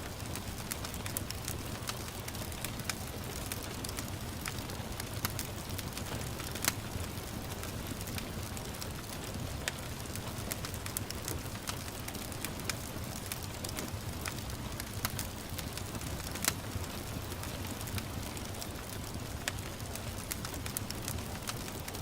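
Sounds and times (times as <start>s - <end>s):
gentle rain patter: 0.0s - 22.0s
wood fire crackling: 0.0s - 22.0s.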